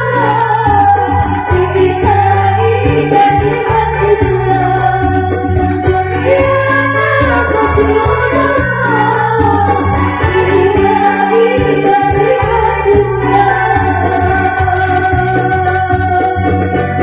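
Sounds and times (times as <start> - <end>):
electronic keyboard accompaniment: 0.0 - 17.0
woman singing: 0.0 - 17.0.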